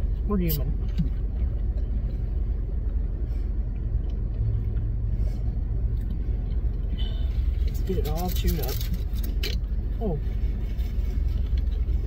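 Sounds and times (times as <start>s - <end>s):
car idling: 0.0s - 12.0s
low hum: 0.0s - 12.0s.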